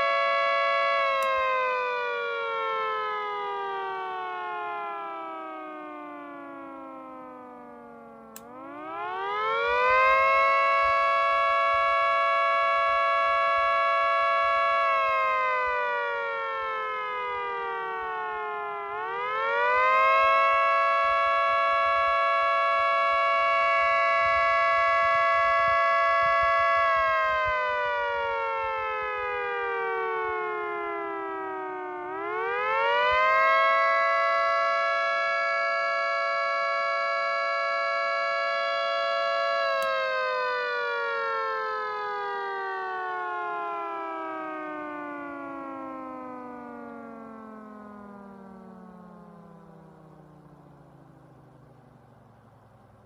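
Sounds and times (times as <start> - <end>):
dual-tone siren winding up: 0.0 - 53.0.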